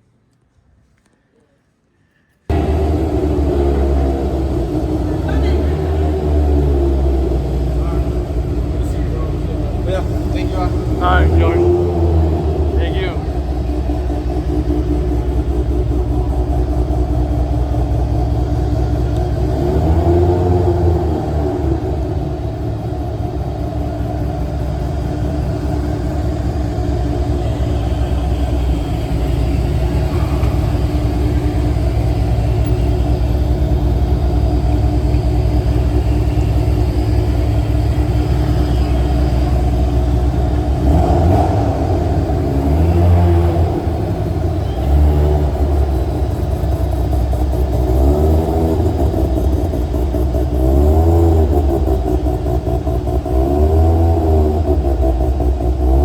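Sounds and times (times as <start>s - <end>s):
car engine revving: 2.5s - 56.0s.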